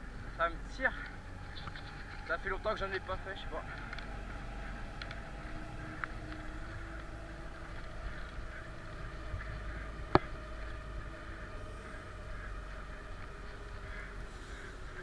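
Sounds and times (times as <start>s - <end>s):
bicycle rolling on track: 0.0s - 15.0s.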